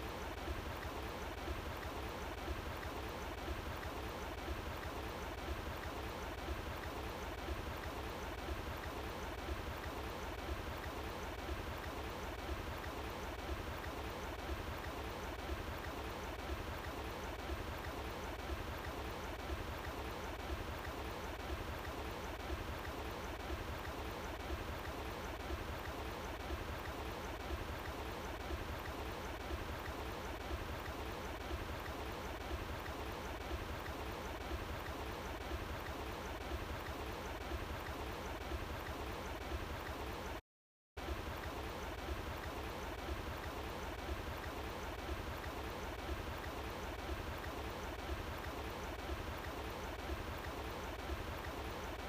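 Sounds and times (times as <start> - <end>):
running water flowing: 0.0 - 40.4, 41.0 - 52.0.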